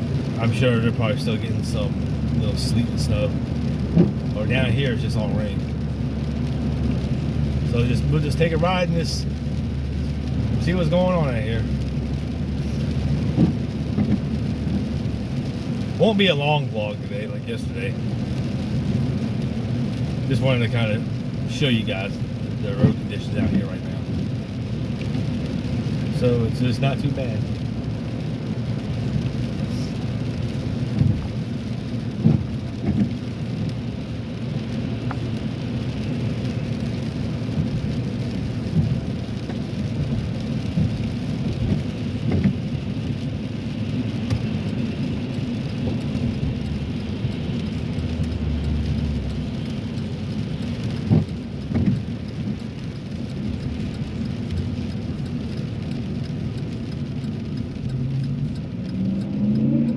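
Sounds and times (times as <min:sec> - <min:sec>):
hiss of rain and road spray: 0:00.0 - 0:57.1
tyre and engine rumble: 0:00.0 - 0:59.9.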